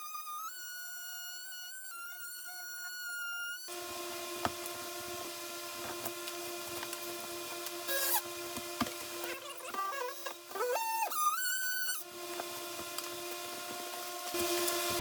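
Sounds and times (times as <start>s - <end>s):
blade cutting through drywall: 0.0s - 15.0s.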